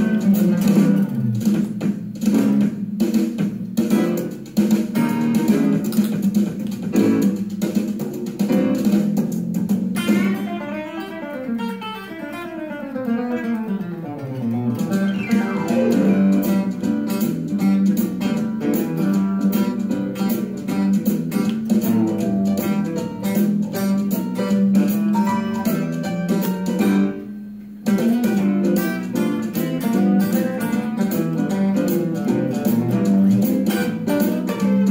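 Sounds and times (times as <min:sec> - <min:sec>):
electric guitar lead: 0:00.0 - 0:01.5, 0:03.9 - 0:07.5, 0:09.7 - 0:34.9
country swing band: 0:00.0 - 0:27.2, 0:27.8 - 0:34.9.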